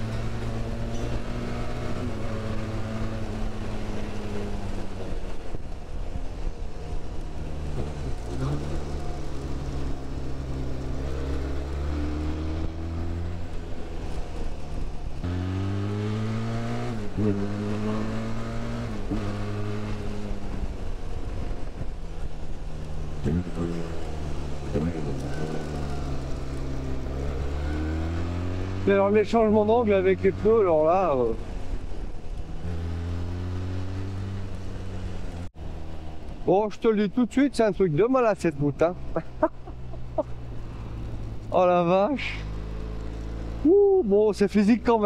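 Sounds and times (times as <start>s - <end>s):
motorcycle engine revving: 0.0s - 5.6s, 6.5s - 36.2s, 38.8s - 43.7s.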